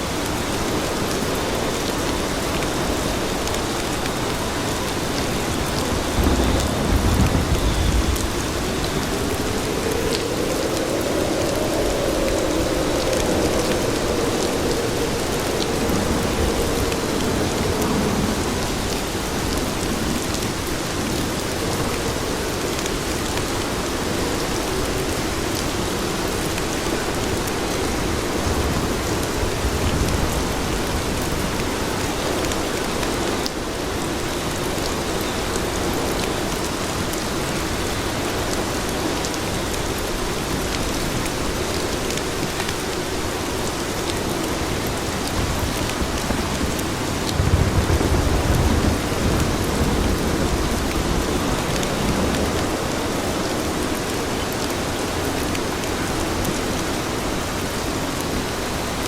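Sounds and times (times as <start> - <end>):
rain on pavement: 0.0 - 59.0.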